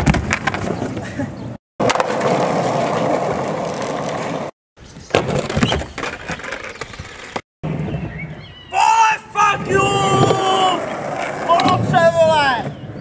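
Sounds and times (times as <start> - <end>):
skateboard wheels rolling: 0.0 - 8.0, 9.6 - 13.0.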